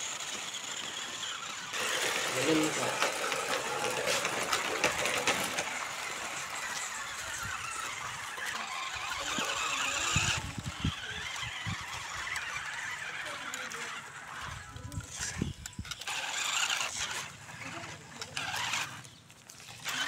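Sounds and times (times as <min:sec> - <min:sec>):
toy electric motor whining: 0:00.0 - 0:20.0.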